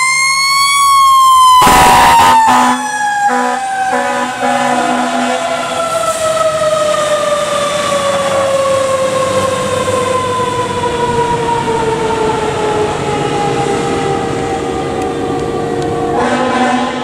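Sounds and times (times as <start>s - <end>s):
mechanical siren wailing: 0.0s - 16.7s.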